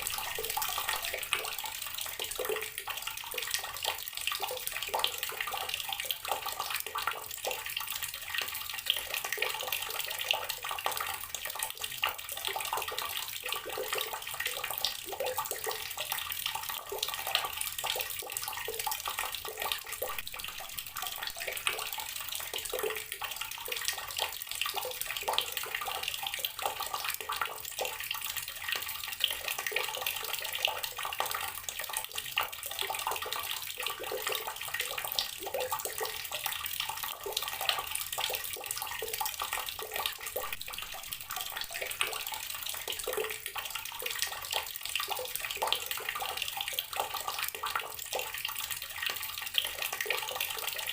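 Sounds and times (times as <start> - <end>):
water running from a tap: 0.0 - 50.9.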